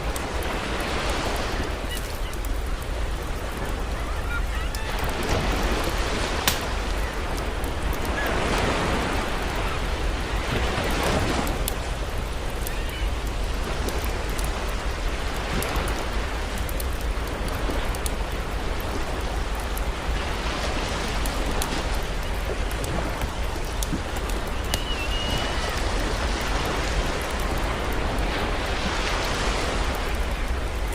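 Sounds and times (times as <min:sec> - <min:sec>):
campfire crackling: 0:00.0 - 0:30.9
sea waves washing in: 0:00.0 - 0:30.9.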